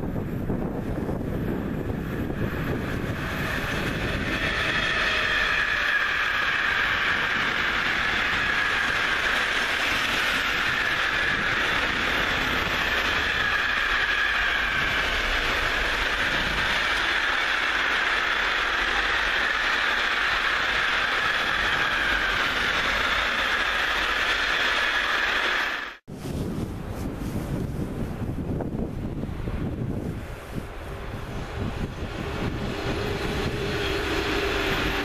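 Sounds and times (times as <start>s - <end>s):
train wheels clattering on rails: 0.0s - 26.0s, 31.4s - 35.0s.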